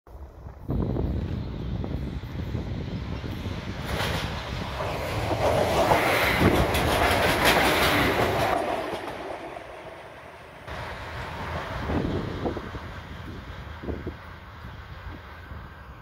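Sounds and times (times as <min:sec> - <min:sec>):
diesel railcar passing: 0:00.1 - 0:16.0.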